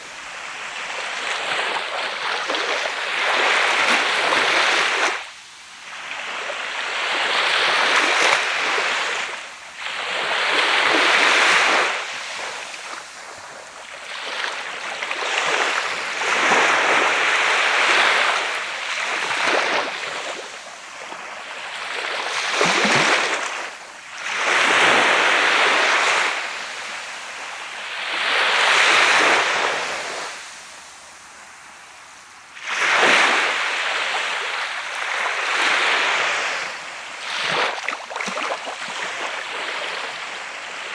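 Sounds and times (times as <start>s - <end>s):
waves breaking on sand beach: 0.0s - 40.9s.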